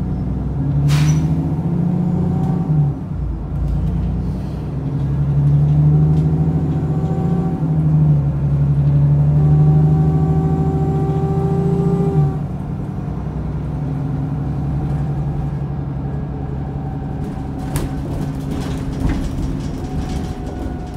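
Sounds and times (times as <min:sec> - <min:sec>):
bus engine drone: 0:00.0 - 0:20.9.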